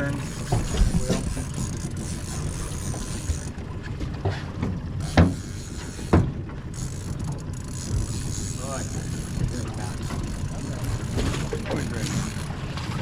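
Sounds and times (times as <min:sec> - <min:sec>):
boat engine running: 0:00.0 - 0:13.0
water and wind wash: 0:00.0 - 0:13.0.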